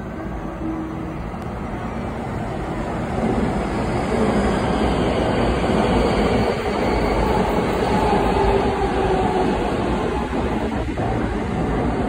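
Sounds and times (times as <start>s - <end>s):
electric train rumbling past: 0.0s - 12.0s.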